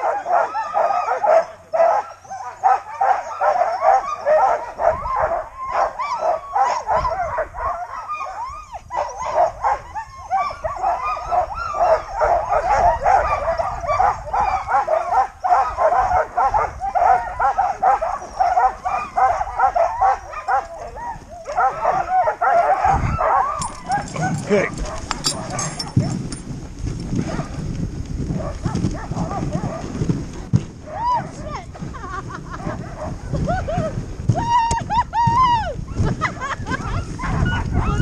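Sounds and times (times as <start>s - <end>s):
sled dogs barking and yipping: 0.0s - 38.0s.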